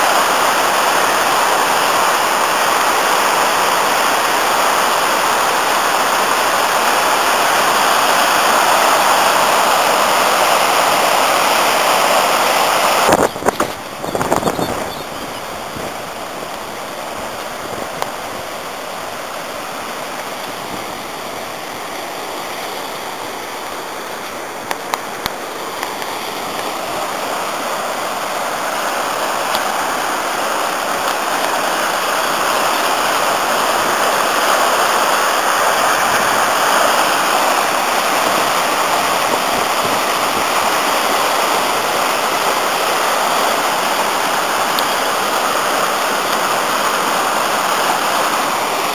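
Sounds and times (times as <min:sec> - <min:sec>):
water rushing over rocky rapids: 0:00.0 - 0:48.9.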